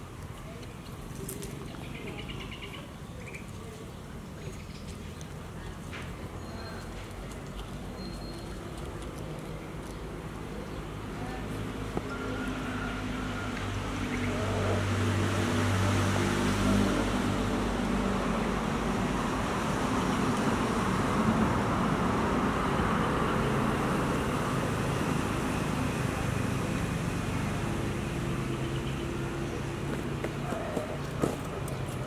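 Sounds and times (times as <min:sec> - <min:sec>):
steady engine hum: 0:05.0 - 0:32.0.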